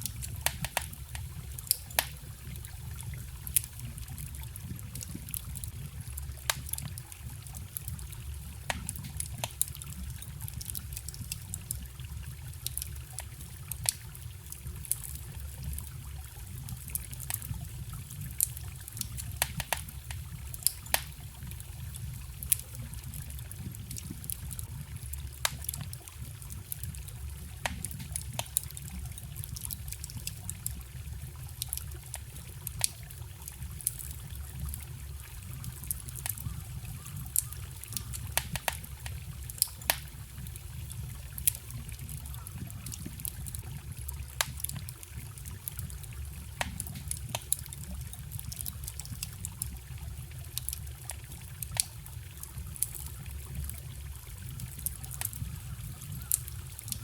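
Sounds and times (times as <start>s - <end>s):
bonfire crackling: 0.0s - 57.0s
forest stream trickling: 0.0s - 57.0s.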